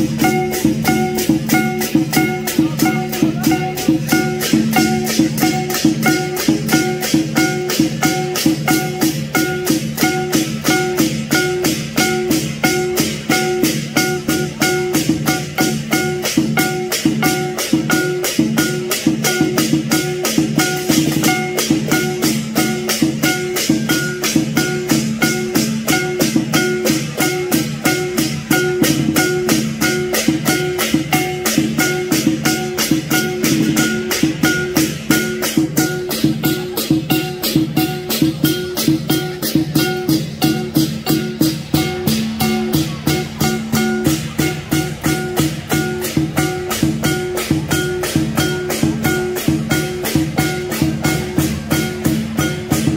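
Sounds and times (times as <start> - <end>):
cymbals crashing: 0.0 - 52.9
drum beat: 0.0 - 52.9
gong ringing: 0.0 - 52.9.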